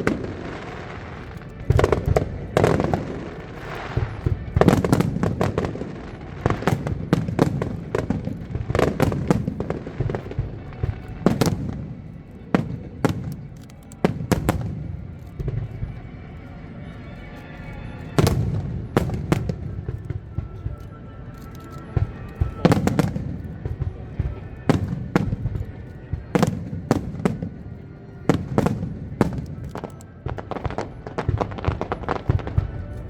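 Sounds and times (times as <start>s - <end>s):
fireworks booming and crackling: 0.0s - 17.0s, 17.8s - 33.0s.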